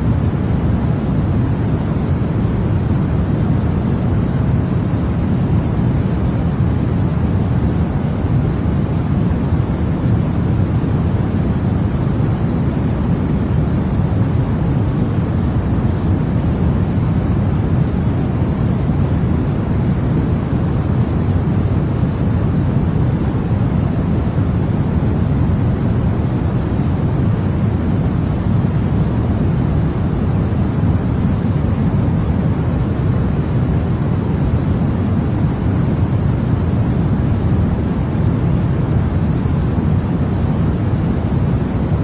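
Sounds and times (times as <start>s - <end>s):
white noise rushing hiss: 0.0s - 42.0s.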